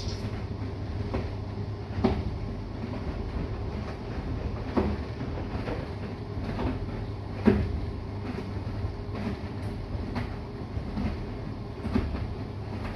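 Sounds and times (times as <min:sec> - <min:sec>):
washing machine motor hum: 0:00.0 - 0:12.9.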